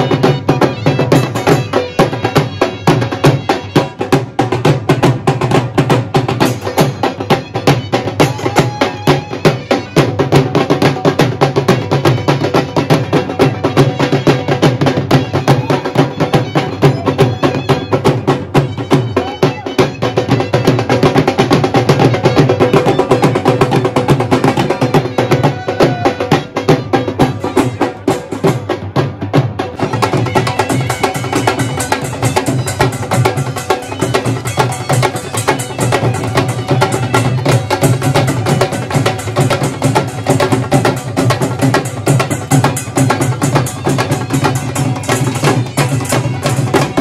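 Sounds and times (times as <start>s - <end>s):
barrel drums beaten with sticks: 0.0s - 47.0s.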